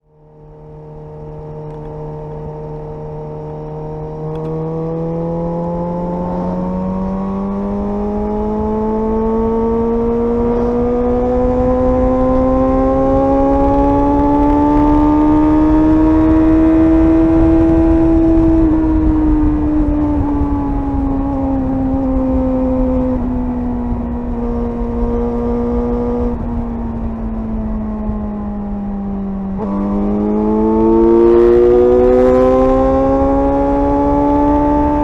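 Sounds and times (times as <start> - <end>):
motorcycle engine accelerating: 0.0 - 35.0
wind and road rumble: 0.0 - 35.0.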